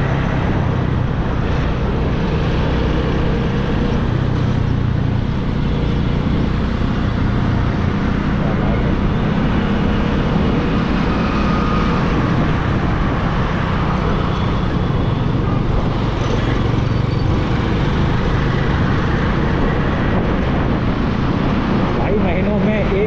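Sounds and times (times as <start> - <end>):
motorcycle engine: 0.0 - 21.9
wind and road noise: 0.0 - 23.0.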